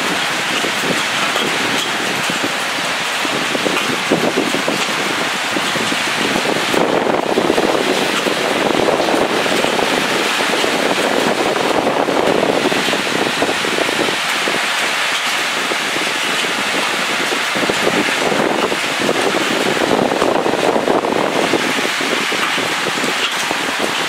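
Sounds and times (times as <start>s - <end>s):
heavy rain pouring: 0.0s - 24.0s
wind: 0.0s - 24.0s.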